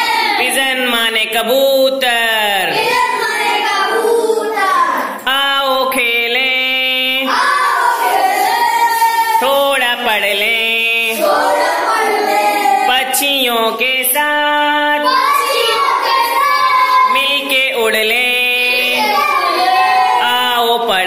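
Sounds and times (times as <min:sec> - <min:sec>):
children singing together: 0:00.0 - 0:00.7, 0:02.5 - 0:05.3, 0:06.8 - 0:21.0.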